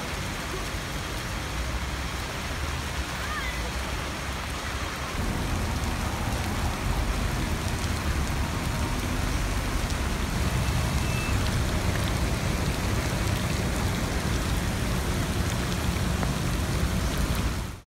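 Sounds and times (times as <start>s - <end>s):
heavy rain splashing on water: 0.0s - 17.8s
low rumble of road traffic: 0.7s - 17.8s.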